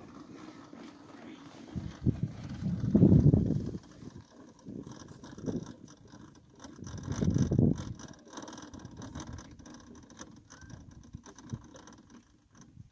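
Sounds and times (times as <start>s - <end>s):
model helicopter rotors clicking: 0.0s - 12.9s.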